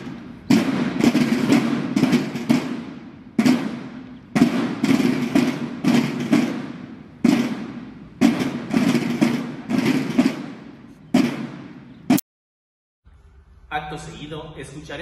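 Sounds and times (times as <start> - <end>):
marching drums beating: 0.0 - 12.2.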